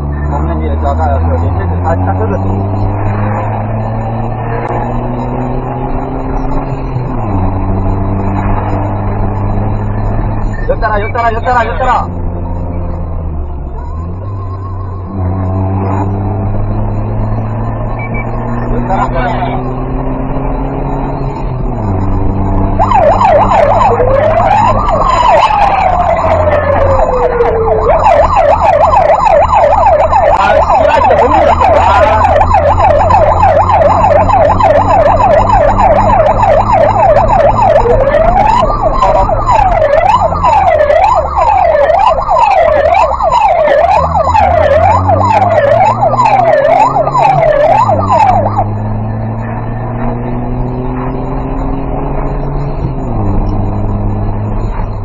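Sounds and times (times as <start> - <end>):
truck engine humming: 0.0 - 11.3, 12.0 - 55.0
electronic siren wailing and yelping: 0.0 - 55.0.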